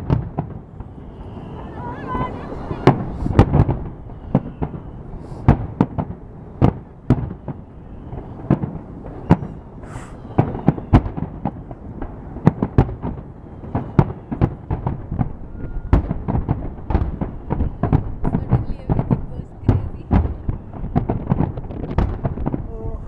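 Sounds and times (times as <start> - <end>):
distant crackling and rumbling: 0.0 - 23.0
fireworks bangs: 0.0 - 23.0.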